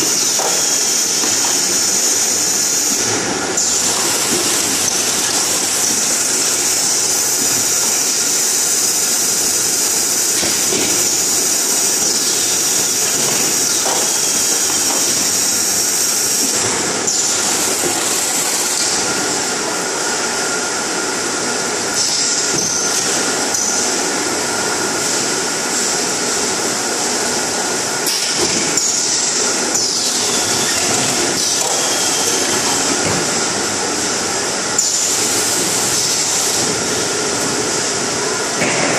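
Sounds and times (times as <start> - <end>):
packing machinery running: 0.0 - 38.9.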